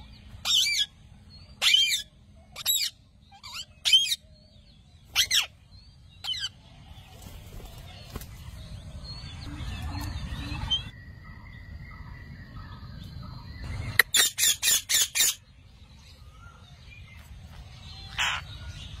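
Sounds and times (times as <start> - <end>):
parakeets calling: 0.0 - 11.0, 12.5 - 19.0.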